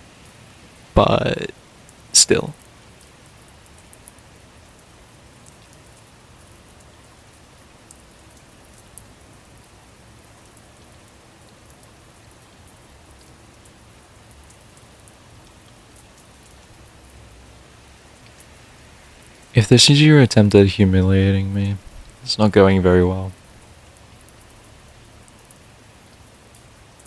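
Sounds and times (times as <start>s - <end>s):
steady rain hiss: 0.0s - 27.0s
raindrop ticks: 1.1s - 19.5s, 21.7s - 27.0s.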